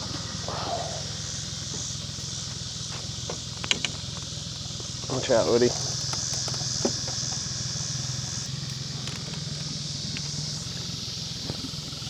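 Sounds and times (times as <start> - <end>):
boat motor humming: 0.0 - 12.0
high insect chorus: 0.0 - 12.0.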